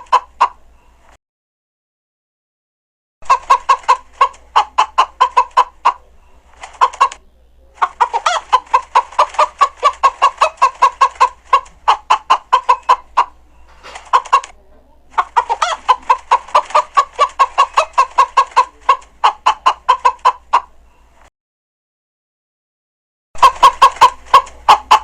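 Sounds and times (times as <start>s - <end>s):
chickens clucking: 0.0s - 1.2s, 3.2s - 21.3s, 23.4s - 25.0s.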